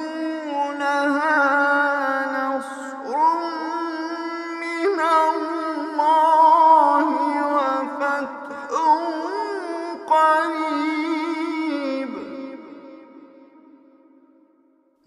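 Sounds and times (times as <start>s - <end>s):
man chanting melodically: 0.0s - 13.9s.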